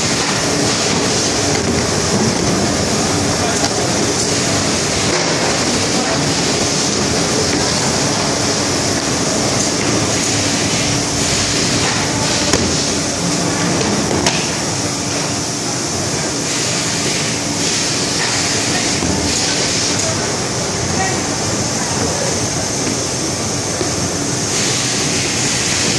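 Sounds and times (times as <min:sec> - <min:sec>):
machinery humming and hissing: 0:00.0 - 0:25.9.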